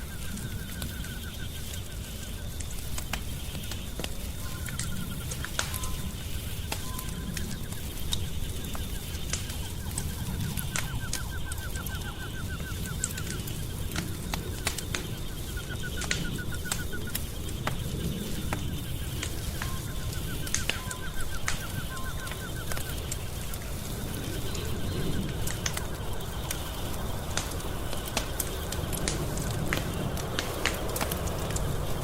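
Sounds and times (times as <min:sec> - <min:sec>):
rapid chirping trills: 0:00.0 - 0:32.0
wood fire crackling and popping: 0:00.0 - 0:32.0.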